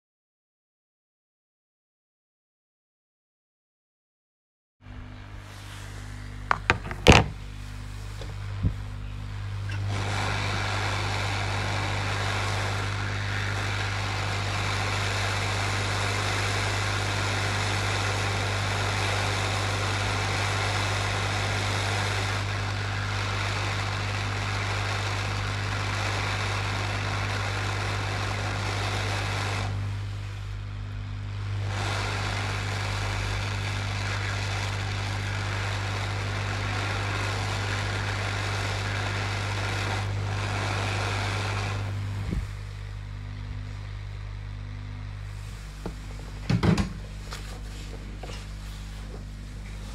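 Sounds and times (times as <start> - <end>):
electric blower fan running: 4.8 - 49.9.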